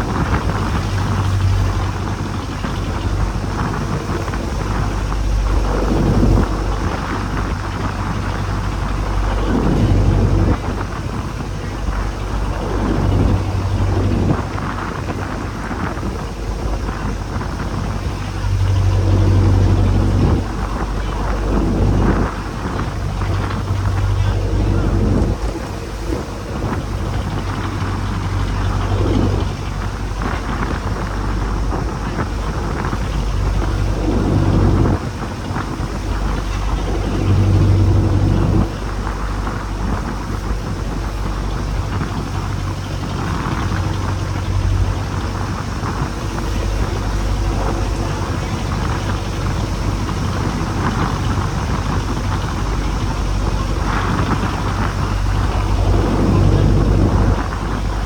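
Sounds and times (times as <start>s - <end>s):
boat engine running: 0.0s - 58.0s
rough water: 0.0s - 58.0s
wind: 0.0s - 58.0s.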